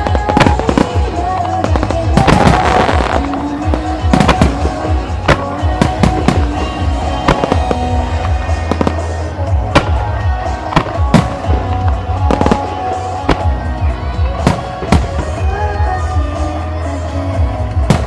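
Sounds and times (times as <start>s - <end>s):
fireworks bursting with crackle: 0.0s - 18.0s
music playing: 0.0s - 18.0s.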